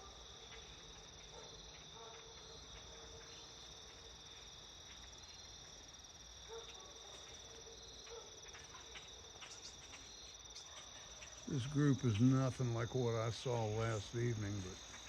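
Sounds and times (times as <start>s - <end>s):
faint insect chirps: 0.0s - 15.0s
insect trill: 0.0s - 15.0s.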